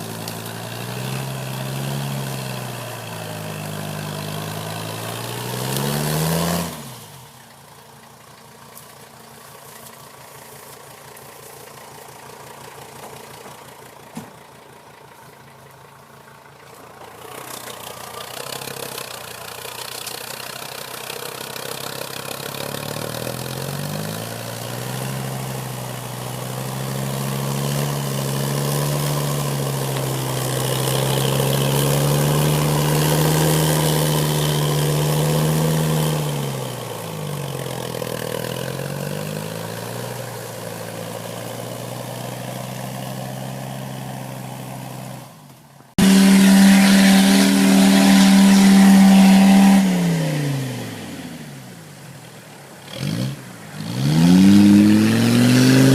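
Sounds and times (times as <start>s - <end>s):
diesel engine running under load: 0.0s - 52.1s.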